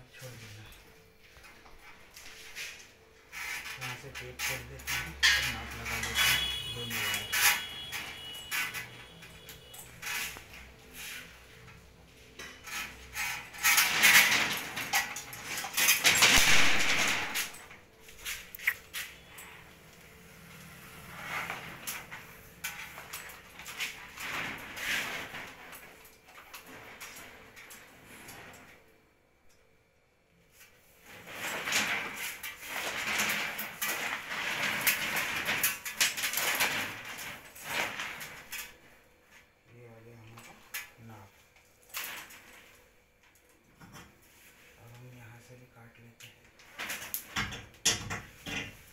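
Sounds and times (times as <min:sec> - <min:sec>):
wires rustling and scraping: 0:00.0 - 0:29.6, 0:30.4 - 0:48.9.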